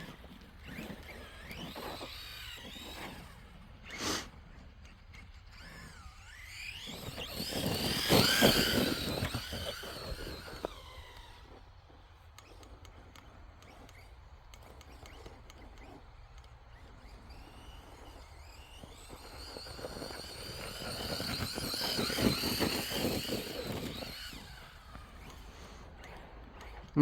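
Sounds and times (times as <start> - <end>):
electric toy truck motor whining: 0.0 - 27.0.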